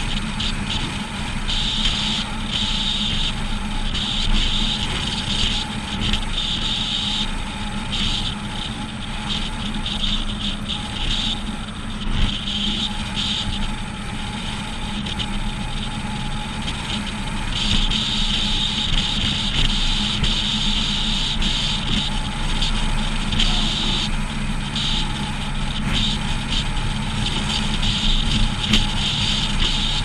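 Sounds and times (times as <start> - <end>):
low drone: 0.0 - 30.0
road and wind noise: 0.0 - 30.0.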